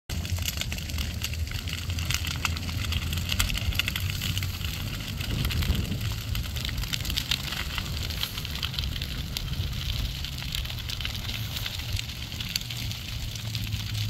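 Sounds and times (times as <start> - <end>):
dry grass crackling and popping: 0.1 - 14.0
fire low rumble: 0.1 - 14.0.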